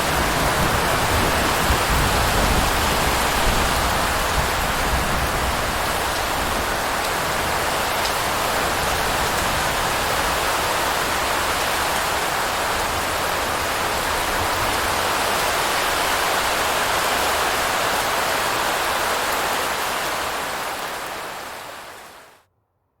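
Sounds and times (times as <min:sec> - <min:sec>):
heavy rain falling: 0:00.0 - 0:22.4.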